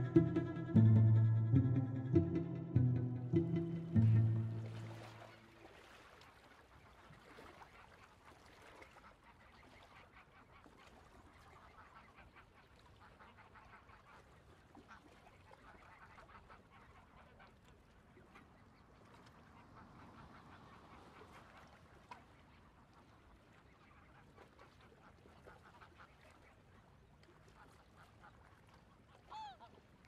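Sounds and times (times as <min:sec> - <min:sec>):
distant geese and ducks honking: 0:00.0 - 0:30.0.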